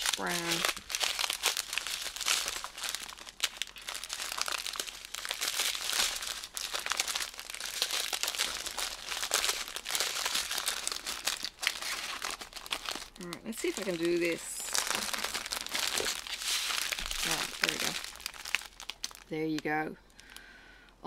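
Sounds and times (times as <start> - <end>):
plastic bags crinkling: 0.0 - 20.4.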